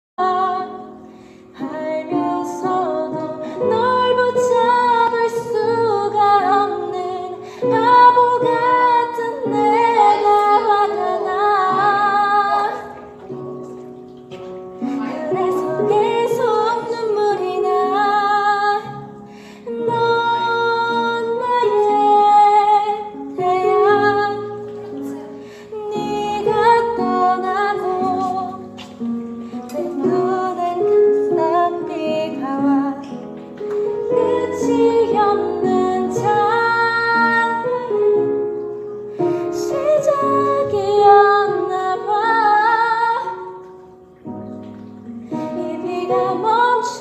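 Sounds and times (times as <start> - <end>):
woman singing a ballad: 0.2 - 13.2, 14.8 - 43.8, 45.3 - 47.0
soft instrumental accompaniment: 0.2 - 47.0.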